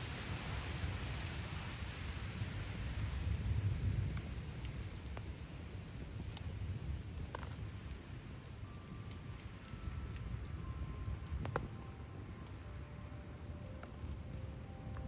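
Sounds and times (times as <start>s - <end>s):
campfire crackling and popping: 0.0s - 15.0s
rain falling: 0.0s - 15.0s.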